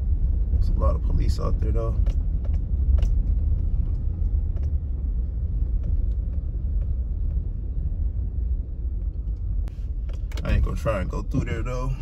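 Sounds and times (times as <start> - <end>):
car engine rumble from inside: 0.0 - 12.0
road noise: 0.0 - 12.0.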